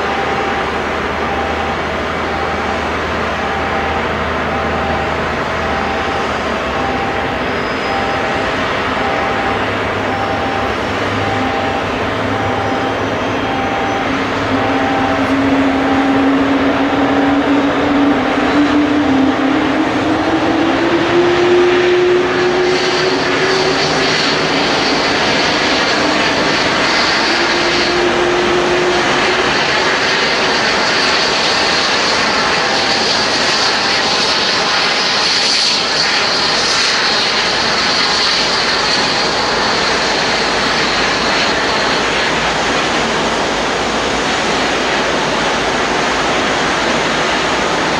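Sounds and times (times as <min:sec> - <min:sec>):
high whine: 0:00.0 - 0:47.9
jet engine starting up: 0:00.0 - 0:47.9
steady rushing noise: 0:00.0 - 0:47.9.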